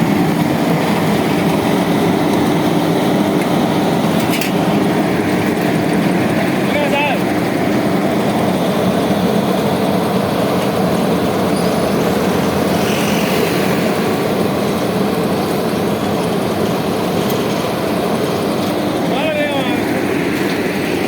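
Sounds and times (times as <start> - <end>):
heavy machinery engine rumbling: 0.0 - 21.0.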